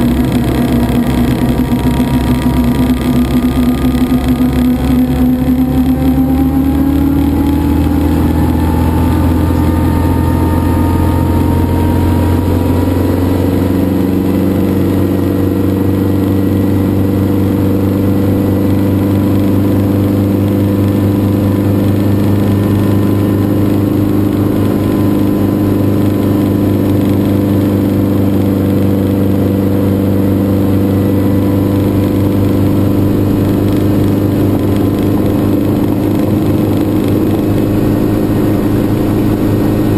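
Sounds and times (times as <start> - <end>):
helicopter engine and rotor running: 0.0 - 39.9.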